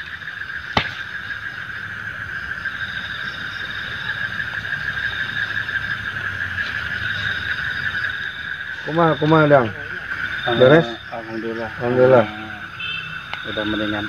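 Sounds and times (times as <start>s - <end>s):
high pulsing insect trill: 0.0s - 14.0s
insects buzzing: 0.0s - 14.0s.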